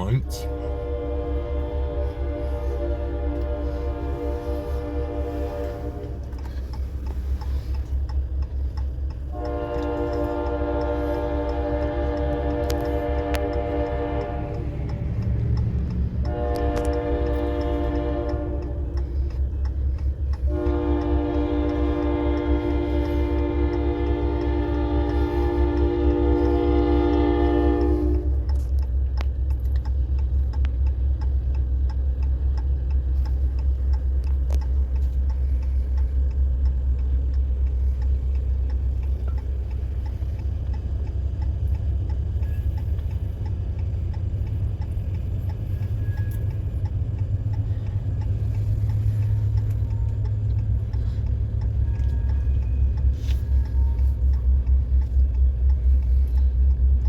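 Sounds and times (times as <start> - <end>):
freight train rumbling past: 0.0 - 57.0
train wheels pulsing: 0.0 - 57.0.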